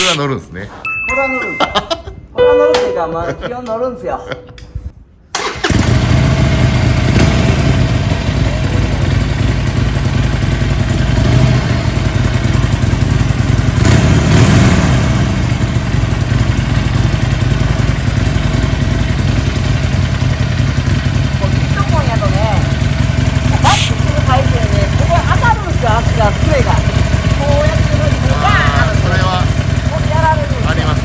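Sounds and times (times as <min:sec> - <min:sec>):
motorcycle engine idling: 0:05.4 - 0:31.0.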